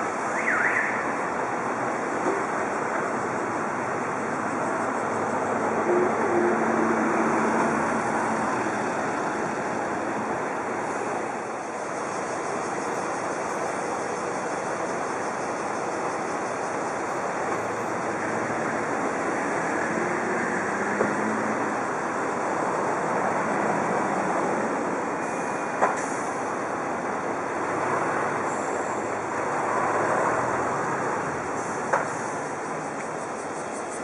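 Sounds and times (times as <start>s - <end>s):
bus engine: 0.0s - 34.0s
road traffic noise: 0.0s - 34.0s.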